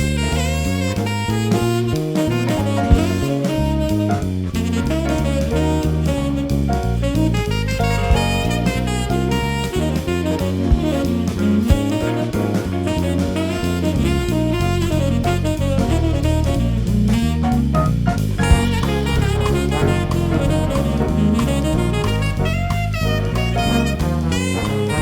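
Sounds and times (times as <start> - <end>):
upbeat jazz music: 0.0 - 25.0.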